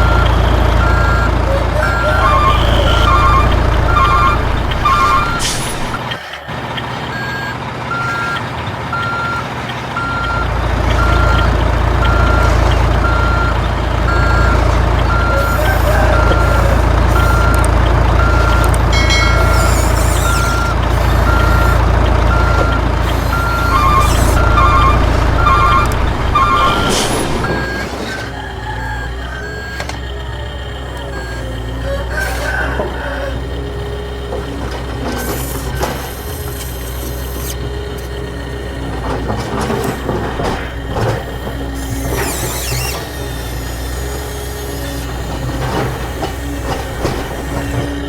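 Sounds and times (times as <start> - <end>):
diesel truck engine rumble: 0.0 - 48.0
truck reversing alarm beeping: 0.0 - 48.0.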